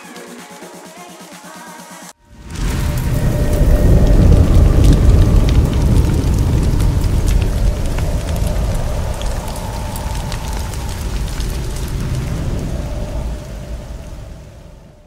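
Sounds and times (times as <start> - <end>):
fiery crackles: 2.2 - 15.0
heavy low rumble: 2.2 - 15.0.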